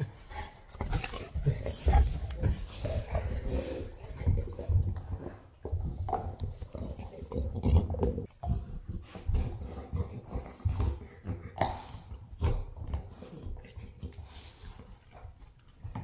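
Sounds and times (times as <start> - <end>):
dog growling and grunting: 0.0 - 14.3.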